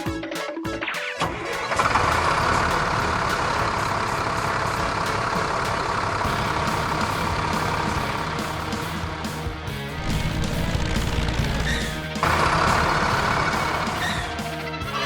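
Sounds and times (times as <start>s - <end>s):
heavy vehicle engine running: 1.7s - 15.0s.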